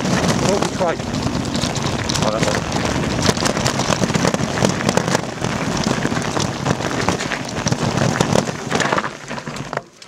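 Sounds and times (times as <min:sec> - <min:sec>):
bike tyres crunching over stones: 0:00.0 - 0:10.0
clatter of small knocks: 0:01.4 - 0:10.0.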